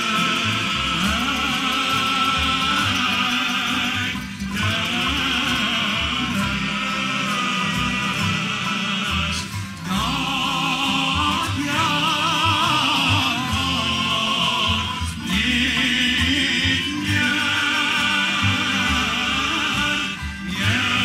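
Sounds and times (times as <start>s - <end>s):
acoustic guitars: 0.0s - 21.0s
cello: 0.0s - 21.0s
man singing with vibrato: 0.0s - 21.0s.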